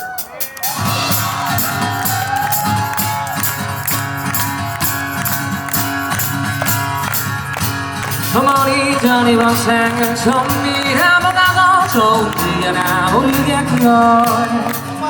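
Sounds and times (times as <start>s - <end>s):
drums steady beat: 0.0s - 15.0s
bass: 0.6s - 15.0s.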